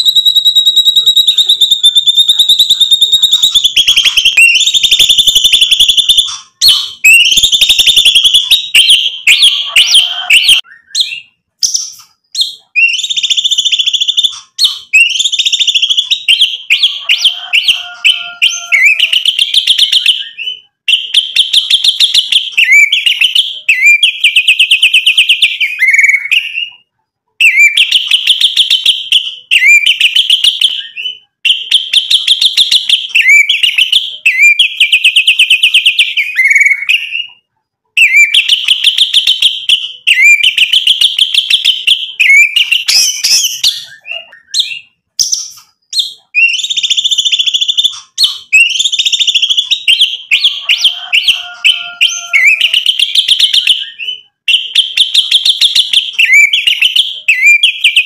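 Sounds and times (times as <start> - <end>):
songbird singing rapid phrases: 0.0 - 58.0.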